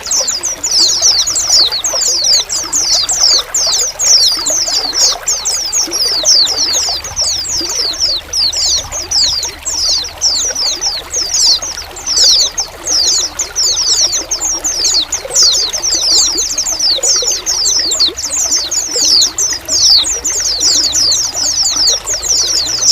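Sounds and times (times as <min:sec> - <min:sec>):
flock of birds calling: 0:00.0 - 0:22.9
trickling water: 0:00.0 - 0:22.9.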